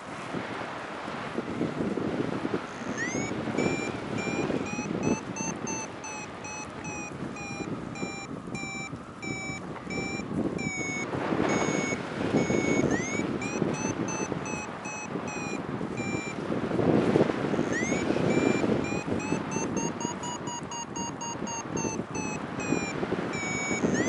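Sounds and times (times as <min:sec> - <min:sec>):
variometer beeping: 0:02.7 - 0:16.4, 0:17.5 - 0:24.0.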